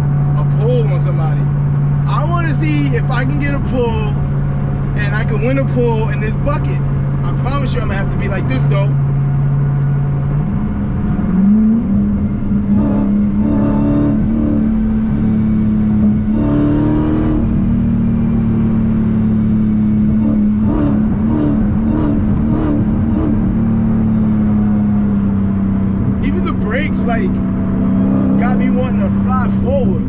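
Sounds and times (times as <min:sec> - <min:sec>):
car engine accelerating from inside: 0:00.0 - 0:30.0.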